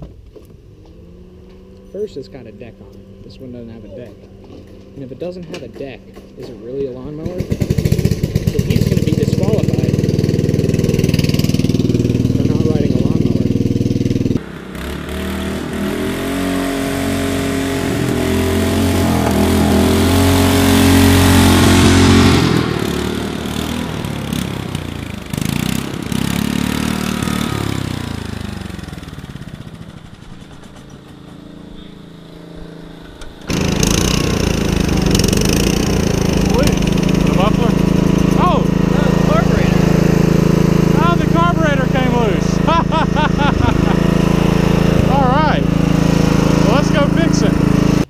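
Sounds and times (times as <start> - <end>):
riding lawn mower engine: 0.0 - 48.0.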